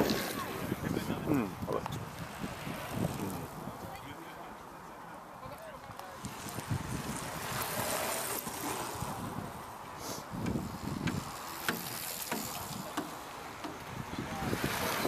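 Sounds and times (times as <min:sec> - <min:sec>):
wind buffeting microphone: 0:00.0 - 0:04.1, 0:06.2 - 0:15.0.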